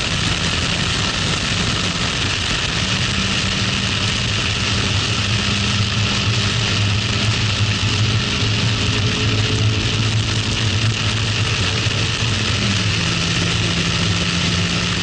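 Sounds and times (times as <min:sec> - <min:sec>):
car engine running hard: 0:00.0 - 0:15.0
wind rush: 0:00.0 - 0:15.0.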